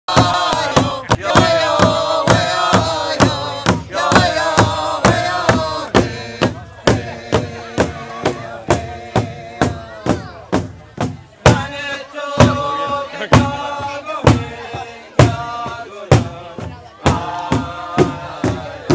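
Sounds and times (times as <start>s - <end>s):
drum beating steadily: 0.1s - 18.9s
voices chanting a song: 0.1s - 18.9s.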